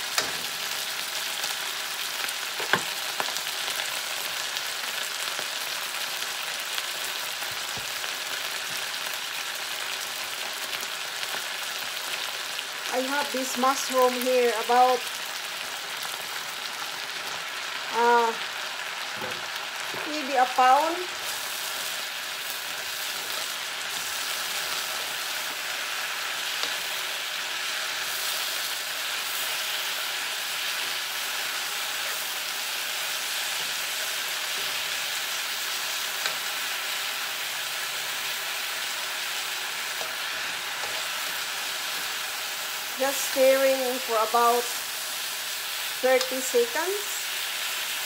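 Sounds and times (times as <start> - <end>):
food sizzling in a wok: 0.0 - 48.0.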